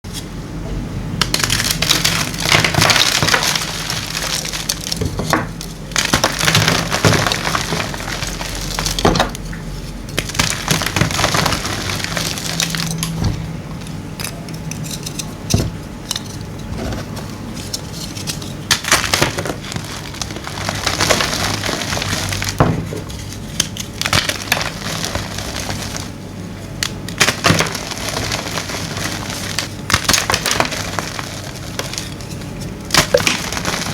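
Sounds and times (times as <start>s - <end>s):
chalk crunching and crumbling: 1.2s - 13.1s, 16.1s - 33.9s.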